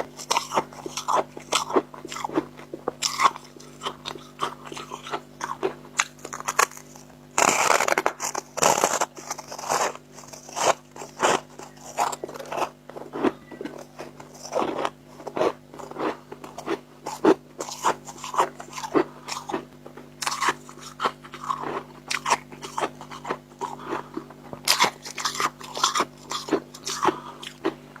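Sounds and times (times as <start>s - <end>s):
frost chunks crunched by teeth: 0.0s - 27.8s.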